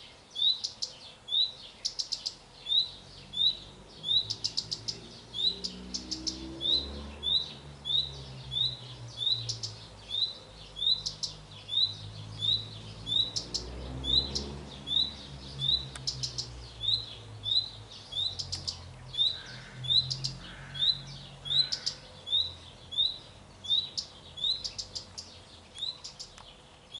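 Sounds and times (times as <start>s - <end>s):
high dry bird ticks: 1.8s - 7.4s, 8.5s - 26.9s.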